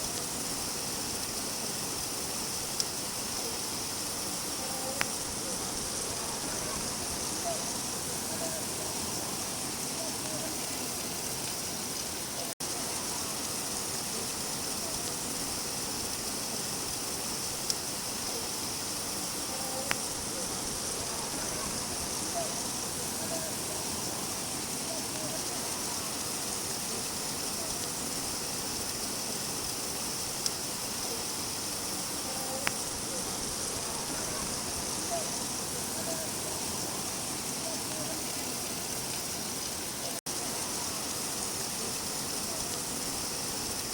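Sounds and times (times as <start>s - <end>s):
steady rain hiss: 0.0s - 43.9s.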